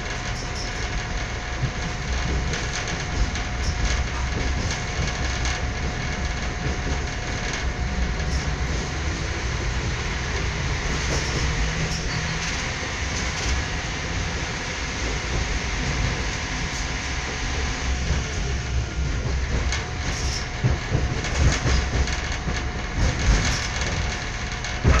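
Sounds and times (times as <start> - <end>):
train rumble and rail noise: 0.0 - 25.0
wheels clicking over rail joints: 0.0 - 25.0.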